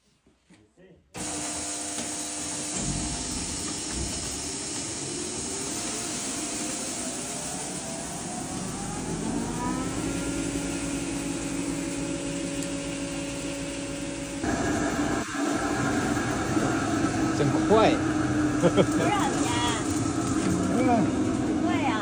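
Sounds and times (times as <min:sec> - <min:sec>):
grinding mill whirring: 0:01.2 - 0:22.0.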